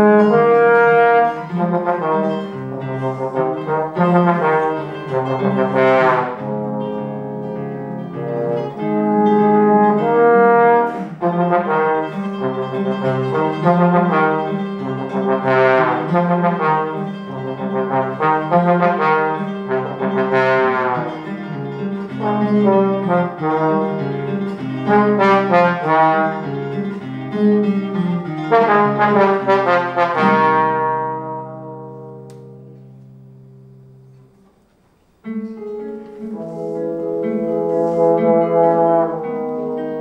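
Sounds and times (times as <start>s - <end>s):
trombone playing: 0.0s - 32.8s, 35.6s - 40.0s
acoustic guitar: 0.0s - 40.0s.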